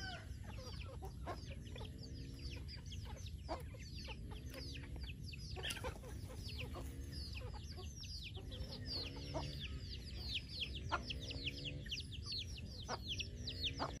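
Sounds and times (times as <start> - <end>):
chicks peeping: 0.0 - 14.0
hen clucking: 0.0 - 14.0.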